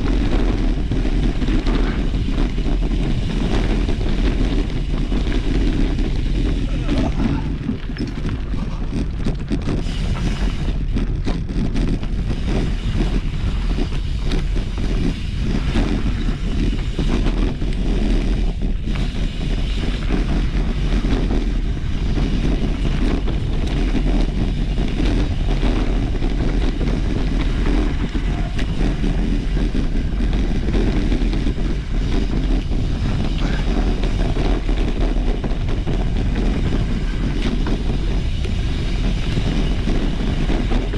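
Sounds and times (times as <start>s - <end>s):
bike knocks and rattles: 0.0s - 40.9s
steady low rumble: 0.0s - 40.9s
wind buffeting microphone: 0.0s - 40.9s.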